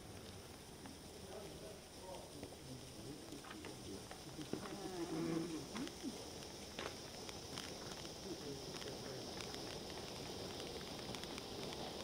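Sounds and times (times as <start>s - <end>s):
faint crackles: 0.0s - 12.0s
firework fountain hissing: 0.0s - 12.0s.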